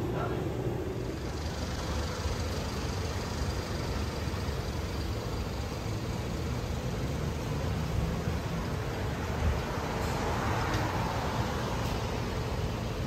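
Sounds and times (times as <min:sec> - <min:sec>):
street ambience rumble and hiss: 0:00.0 - 0:13.0.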